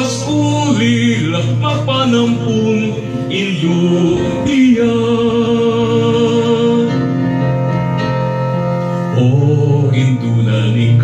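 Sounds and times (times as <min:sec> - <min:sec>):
person singing: 0:00.0 - 0:07.4, 0:09.0 - 0:11.0
instrumental hymn accompaniment: 0:00.0 - 0:11.0.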